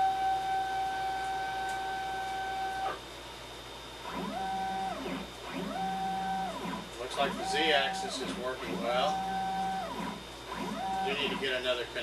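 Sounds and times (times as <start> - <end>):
stepper motor whine: 0.0 - 3.0, 4.0 - 11.8.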